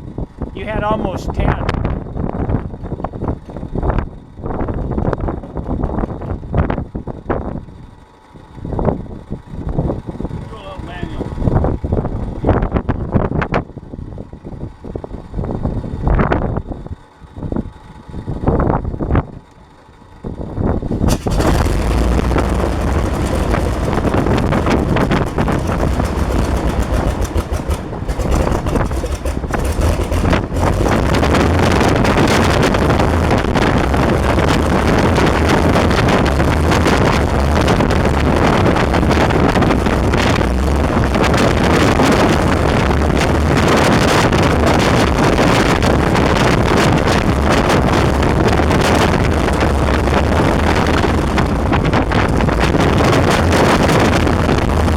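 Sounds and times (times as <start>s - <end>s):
propeller wash buffeting microphone: 0.0s - 16.1s, 20.2s - 54.9s
aircraft engine running: 0.0s - 54.9s.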